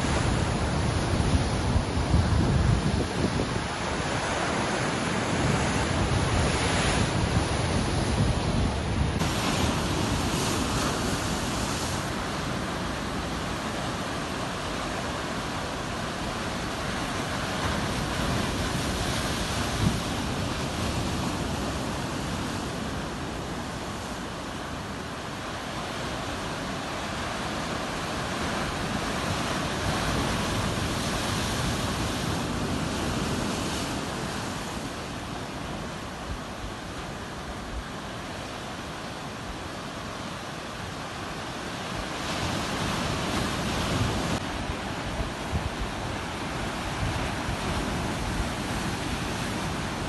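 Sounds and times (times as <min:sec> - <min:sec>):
ocean waves breaking on shore: 0:00.0 - 0:50.0.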